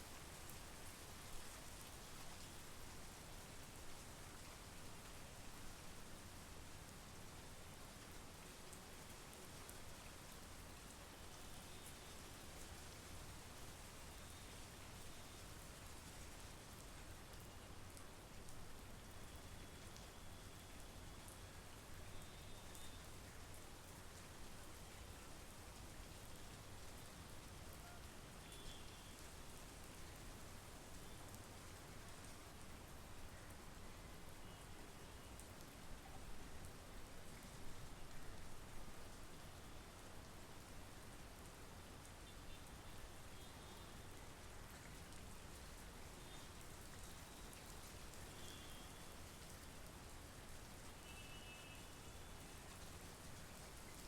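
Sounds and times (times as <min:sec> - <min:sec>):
soft rain hiss: 0:00.0 - 0:54.0.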